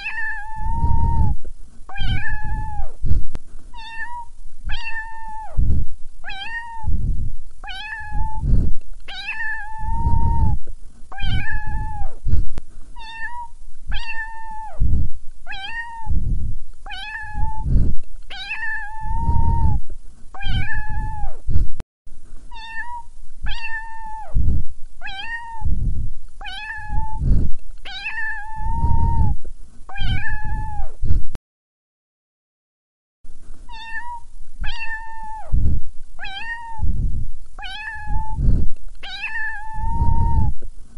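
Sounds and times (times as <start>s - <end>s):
looped cat meow: 0.0s - 3.0s, 3.7s - 7.0s, 7.6s - 12.2s, 13.0s - 14.9s, 15.5s - 21.4s, 22.5s - 25.8s, 26.4s - 31.0s, 33.7s - 37.0s, 37.6s - 40.6s.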